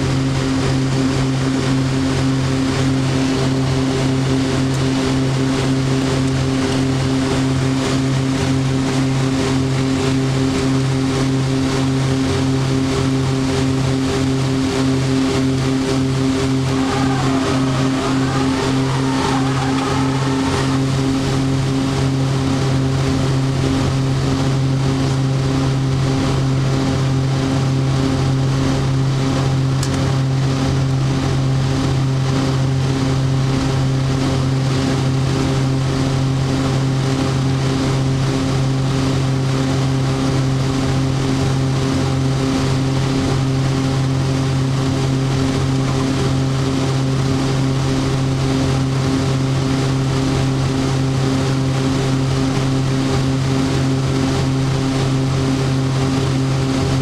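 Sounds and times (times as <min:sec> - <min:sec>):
propeller drone in cockpit: 0:00.0 - 0:57.0.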